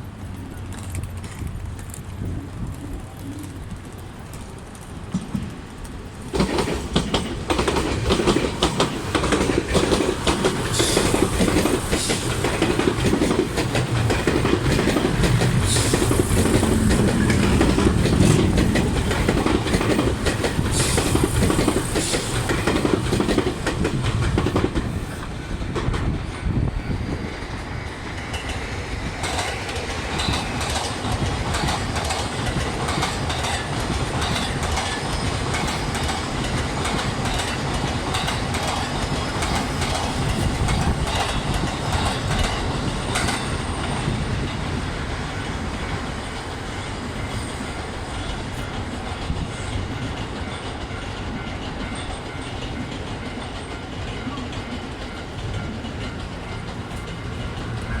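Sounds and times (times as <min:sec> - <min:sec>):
train wheels clicking over rail joints: 0:00.0 - 0:58.0.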